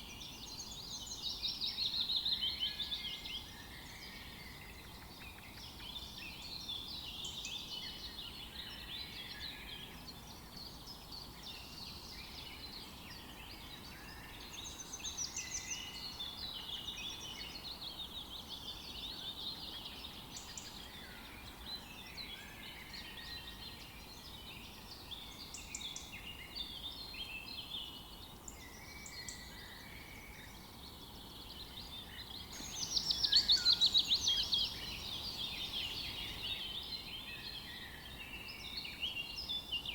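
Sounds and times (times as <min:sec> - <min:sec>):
birds chirping chorus: 0:00.0 - 0:39.9.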